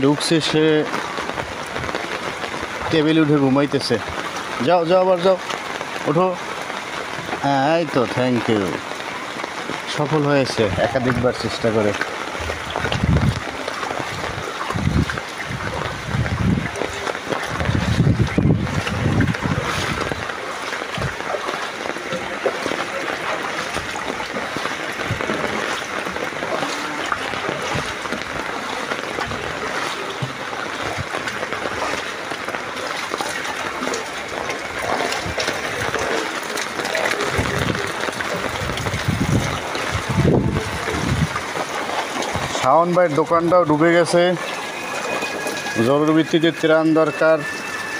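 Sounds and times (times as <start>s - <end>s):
heavy rain: 0.0s - 47.9s
water sloshing and splashing: 0.0s - 47.9s.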